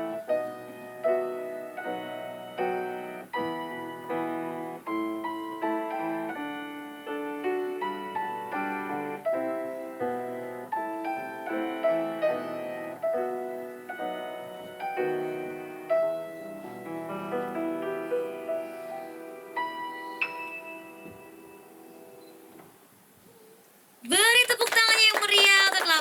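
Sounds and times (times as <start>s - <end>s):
solo piano piece: 0.0s - 23.5s.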